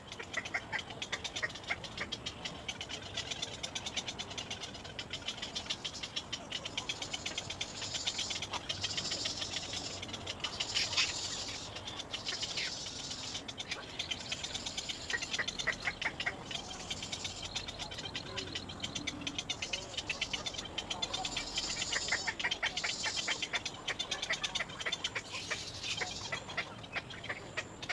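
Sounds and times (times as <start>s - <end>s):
bird chicks high ticking calls: 0.0s - 27.9s.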